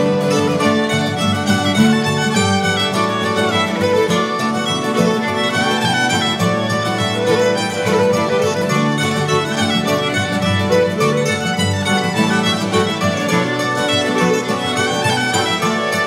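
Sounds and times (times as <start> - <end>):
lively fiddle tune: 0.0 - 16.0.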